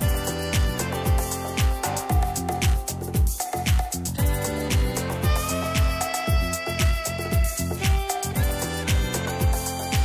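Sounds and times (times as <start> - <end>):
background music with steady beat: 0.0 - 10.0
low kick drum: 0.0 - 10.0.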